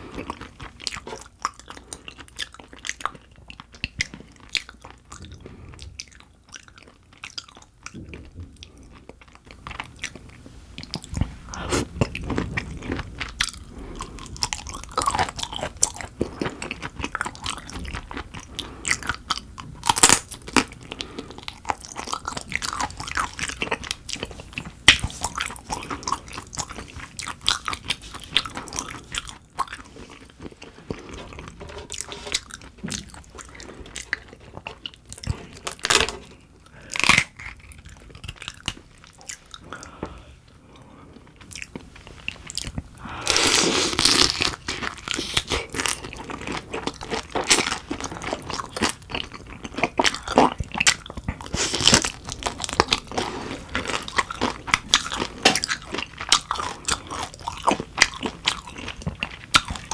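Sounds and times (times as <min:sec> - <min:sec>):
chewing and crunching shrimp: 0:00.0 - 0:59.9.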